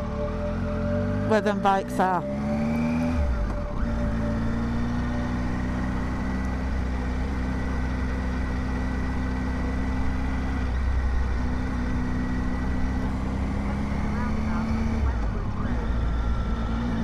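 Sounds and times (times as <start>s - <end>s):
motorcycle engine running: 2.2s - 17.0s
wind and road noise: 2.2s - 17.0s.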